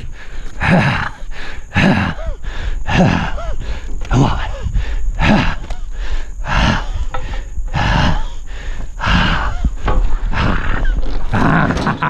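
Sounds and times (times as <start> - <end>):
man grunting and roaring with strain: 0.6 - 8.4, 9.0 - 11.8.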